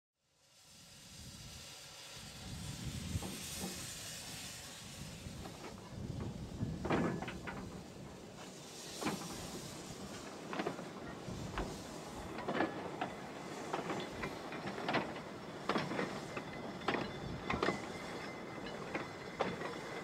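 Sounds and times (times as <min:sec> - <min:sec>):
steam hissing: 0:00.3 - 0:20.0
steam locomotive chuffs: 0:00.5 - 0:20.0
train clanks: 0:01.8 - 0:20.0.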